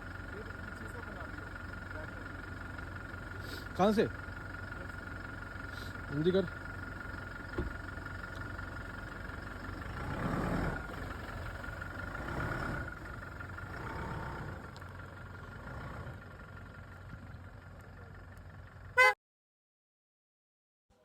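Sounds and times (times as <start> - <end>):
vehicle engine idling: 0.0 - 19.2.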